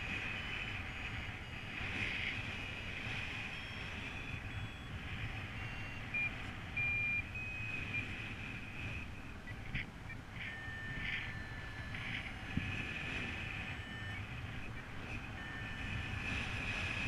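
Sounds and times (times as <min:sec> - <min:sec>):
variometer beeping: 0:00.0 - 0:17.0
wind rumble on microphone: 0:00.0 - 0:17.0.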